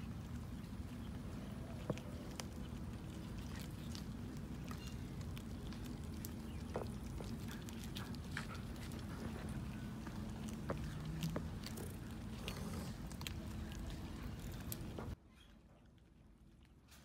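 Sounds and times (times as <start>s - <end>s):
cats chewing: 0.0s - 17.0s
low background hum: 0.0s - 17.0s.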